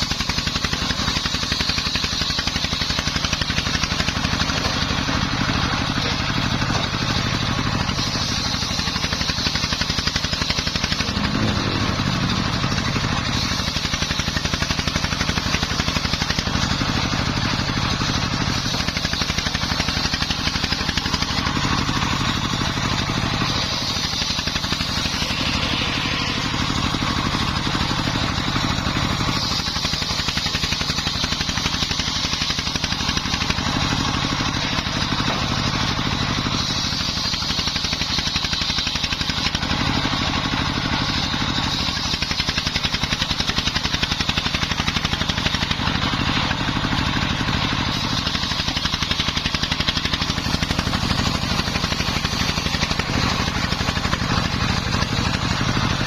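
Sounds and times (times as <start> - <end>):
circular saw whine: 0.0 - 56.0
diesel engine running: 0.0 - 56.0.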